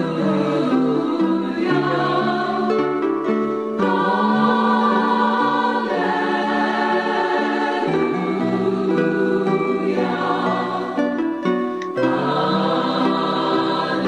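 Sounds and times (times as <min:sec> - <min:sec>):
slow choir-like chords: 0:00.0 - 0:14.0.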